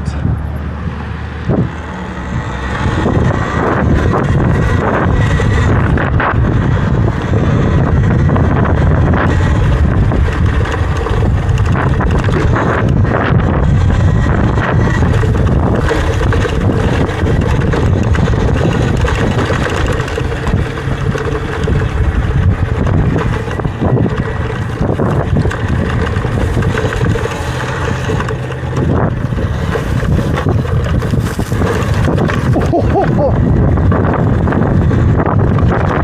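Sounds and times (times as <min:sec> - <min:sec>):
wind noise on microphone: 0:00.0 - 0:36.0
faint electric motor whine: 0:00.7 - 0:32.6.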